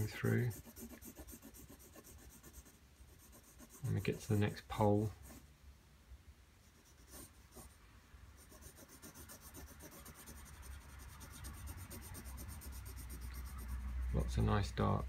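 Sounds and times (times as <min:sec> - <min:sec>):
pencil scratching on paper: 0:00.0 - 0:05.4, 0:06.6 - 0:07.8, 0:08.4 - 0:14.3.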